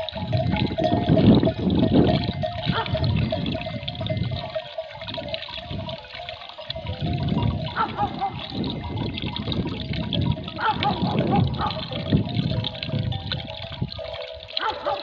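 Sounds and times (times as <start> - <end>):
water trickling into a trough: 0.0 - 15.0.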